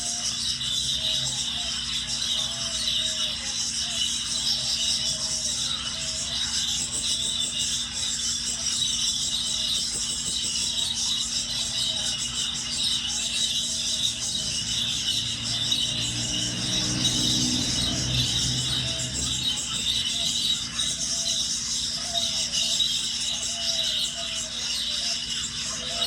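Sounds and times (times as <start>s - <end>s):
budgerigars chattering and warbling: 0.0s - 26.0s.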